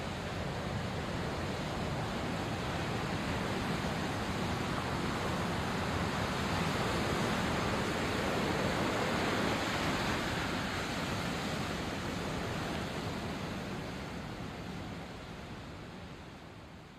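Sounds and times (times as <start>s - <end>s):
sea surf washing onto shore: 0.1s - 14.2s.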